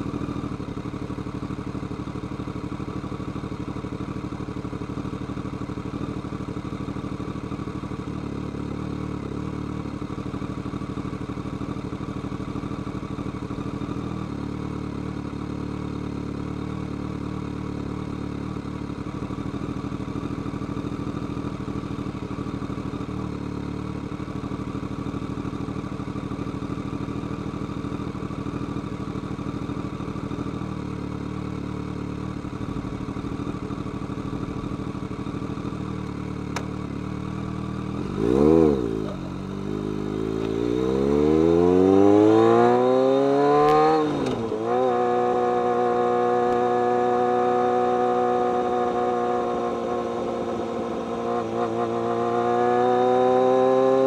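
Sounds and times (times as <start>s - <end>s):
motorcycle engine at steady revs: 0.0s - 54.0s.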